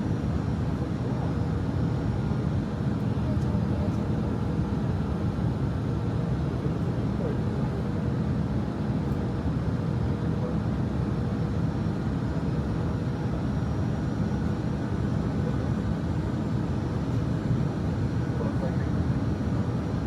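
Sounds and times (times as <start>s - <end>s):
airliner cabin engine drone: 0.0s - 20.0s.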